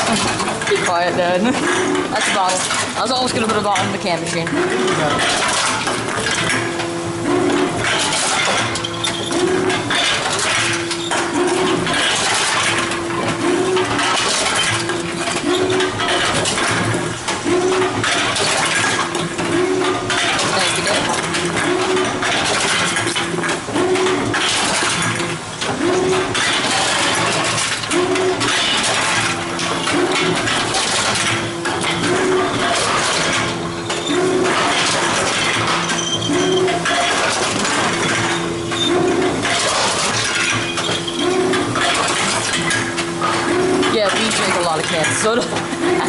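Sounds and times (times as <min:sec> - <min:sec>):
cans clattering in machine: 0:00.0 - 0:46.0.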